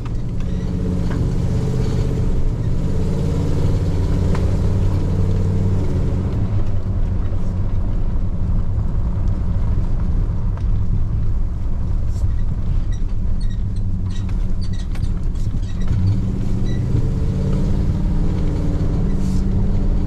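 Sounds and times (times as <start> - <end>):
truck engine and tyres rumbling: 0.0 - 20.0.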